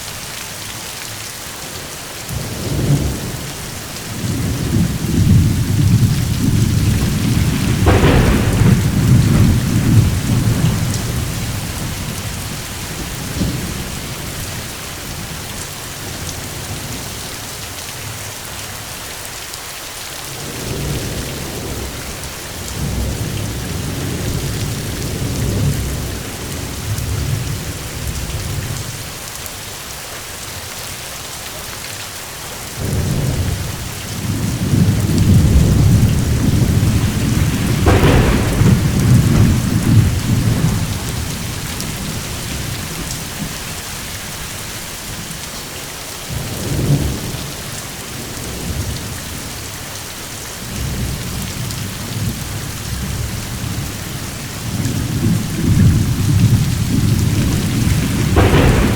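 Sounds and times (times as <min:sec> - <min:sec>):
heavy rain hissing: 0:00.0 - 0:58.9
rolling thunder: 0:02.3 - 0:17.2, 0:20.3 - 0:28.9, 0:32.8 - 0:45.5, 0:46.3 - 0:49.6, 0:50.6 - 0:58.9.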